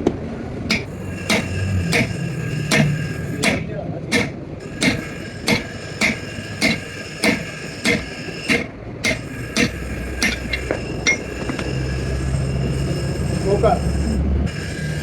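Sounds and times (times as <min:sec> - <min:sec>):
hammer striking metal: 0:00.7 - 0:13.8.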